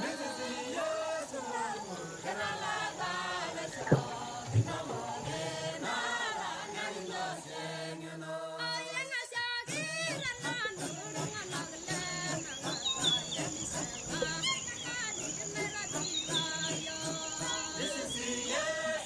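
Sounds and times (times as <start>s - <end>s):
choral singing: 0.0s - 19.0s.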